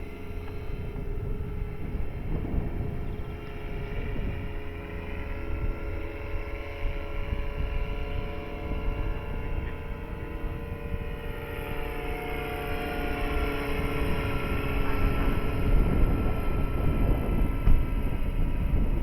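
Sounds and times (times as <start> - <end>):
rc helicopter motor whine: 0.0 - 19.0
wind rumble on microphone: 0.0 - 19.0.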